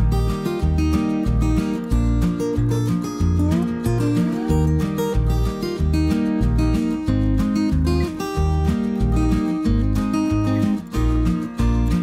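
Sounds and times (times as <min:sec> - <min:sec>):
background music with bass beat: 0:00.0 - 0:12.0.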